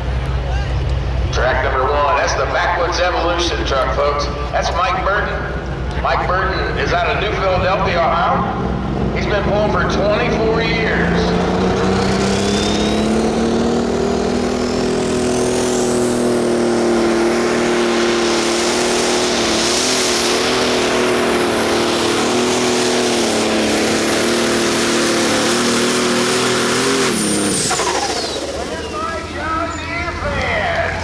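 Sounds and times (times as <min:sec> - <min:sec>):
truck engine at full throttle: 0:00.0 - 0:31.0.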